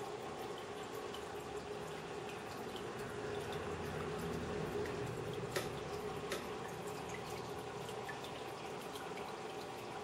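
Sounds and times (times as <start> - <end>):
faint steady hum: 0.0 - 10.0
water trickling and dripping: 0.0 - 10.0.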